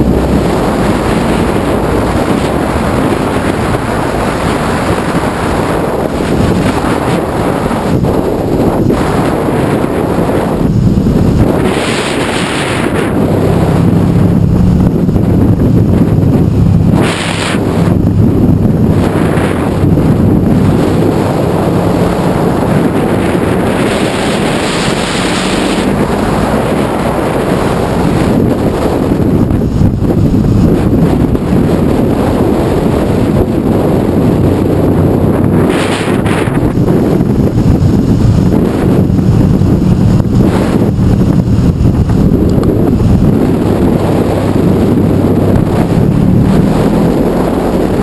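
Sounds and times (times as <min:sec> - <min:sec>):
motorcycle engine drone: 0:00.0 - 0:48.0
wind noise on microphone: 0:00.0 - 0:48.0.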